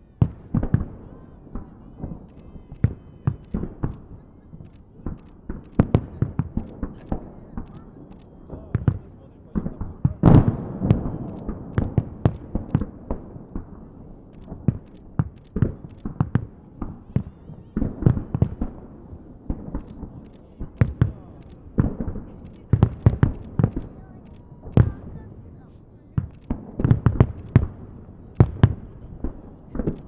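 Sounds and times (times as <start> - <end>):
fireworks bursting with sharp bangs: 0.0 - 30.0.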